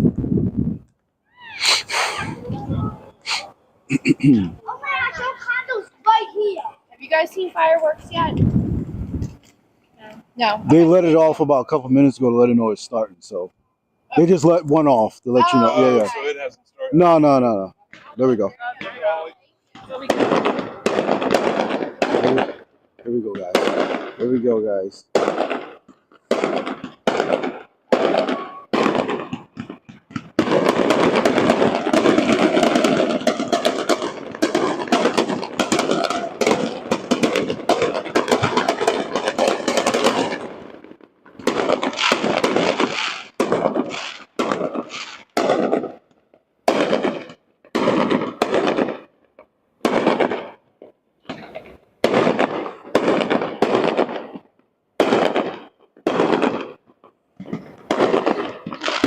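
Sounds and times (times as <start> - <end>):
fireworks bangs: 0.0 - 9.5, 10.4 - 59.0.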